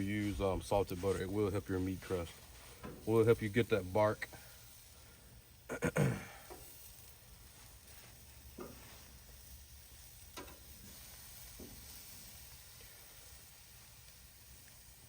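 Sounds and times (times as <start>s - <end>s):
meat sizzling in butter: 0.0s - 15.0s.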